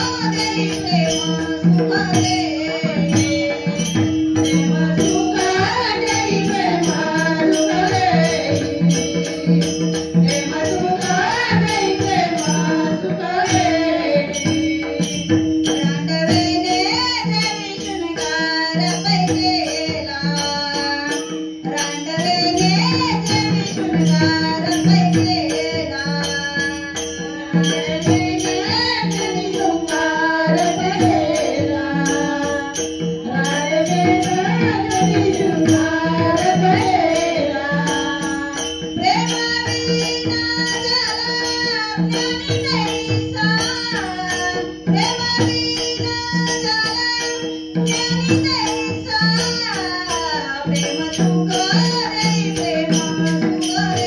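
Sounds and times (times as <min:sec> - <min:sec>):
devotional singing: 0:00.0 - 0:54.0
jingling hand percussion: 0:00.0 - 0:54.0.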